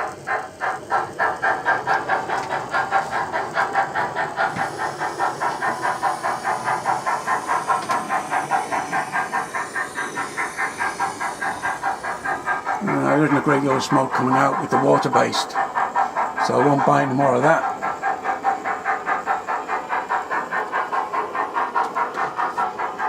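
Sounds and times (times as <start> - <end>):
model steam locomotive chuffing: 0.0 - 23.0.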